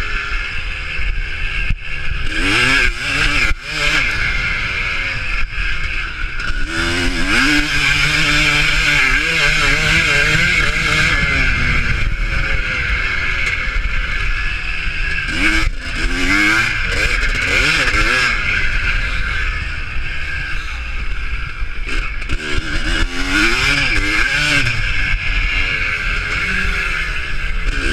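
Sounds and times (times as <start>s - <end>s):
motocross engines revving and passing: 0.0s - 27.9s.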